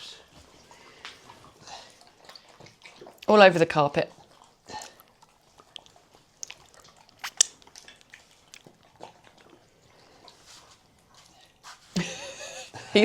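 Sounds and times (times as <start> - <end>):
dogs eating wet smacks and licks: 0.3 - 12.1.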